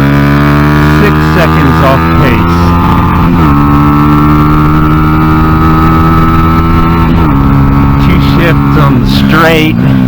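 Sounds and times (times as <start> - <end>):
motorbike engine running hard: 0.0 - 10.0.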